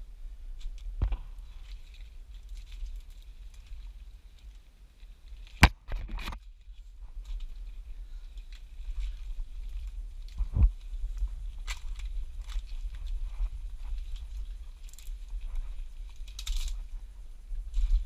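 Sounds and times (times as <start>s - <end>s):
steady low rumble: 0.0s - 18.0s
stems crackling and rustling: 0.0s - 18.0s.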